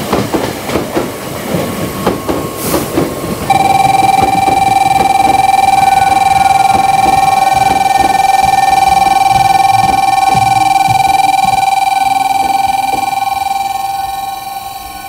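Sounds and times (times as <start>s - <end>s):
electric station bell ringing: 1.9s - 15.0s.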